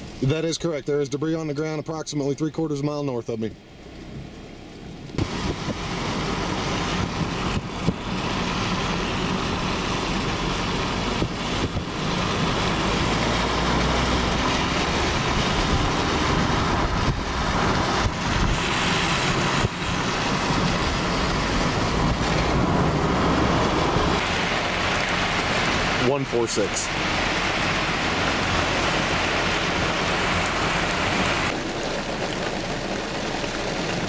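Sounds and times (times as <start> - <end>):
vehicle road and wind noise: 0.0 - 34.0.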